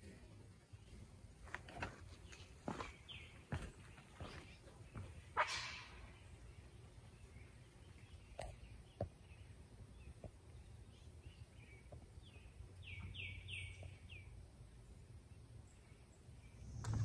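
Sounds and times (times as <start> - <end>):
faint songbirds chirping: 0.0 - 17.0.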